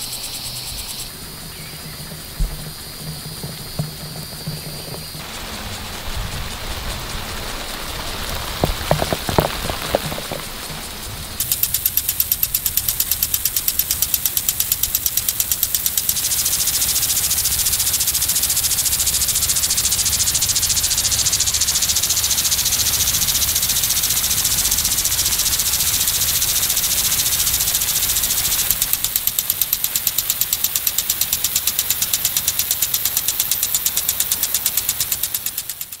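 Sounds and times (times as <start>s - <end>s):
sprinkler ticking: 0.0s - 36.0s
water spray hissing: 0.0s - 36.0s.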